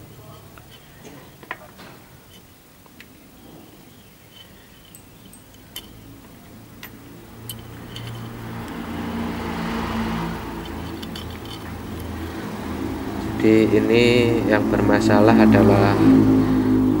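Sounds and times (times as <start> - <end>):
low mechanical drone: 3.3 - 17.0.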